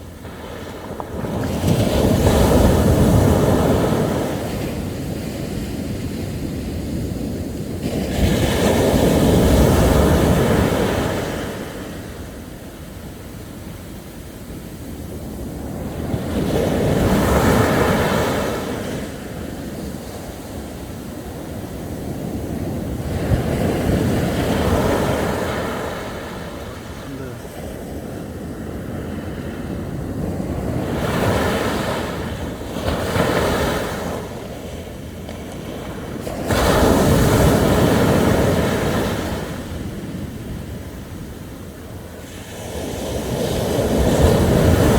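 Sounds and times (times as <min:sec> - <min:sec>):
sea waves breaking on beach: 0:00.0 - 0:44.9.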